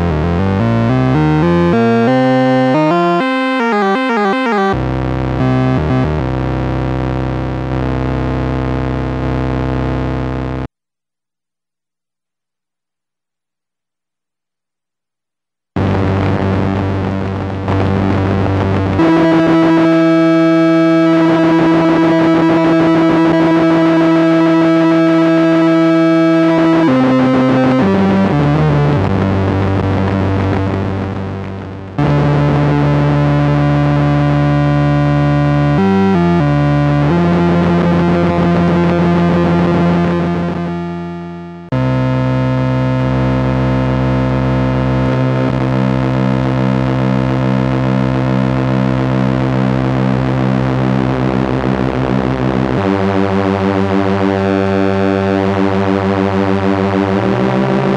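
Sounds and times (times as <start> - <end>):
buzzy synthesizer tone: 0.0 - 10.7, 15.8 - 57.9.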